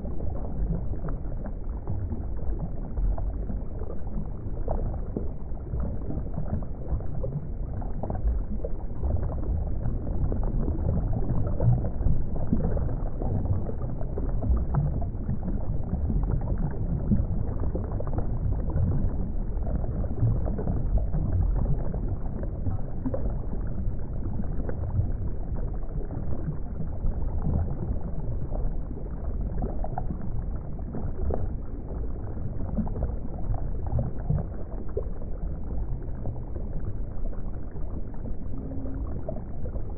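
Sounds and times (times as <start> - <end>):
churning bubbling water: 0.0 - 39.9.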